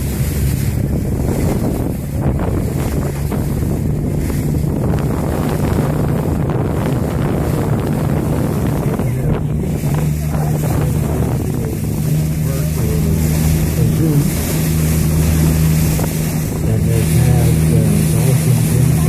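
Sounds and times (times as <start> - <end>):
boat engine drone: 0.0 - 19.0
water rushing along hull: 0.0 - 19.0
wind buffeting microphone: 0.0 - 19.0.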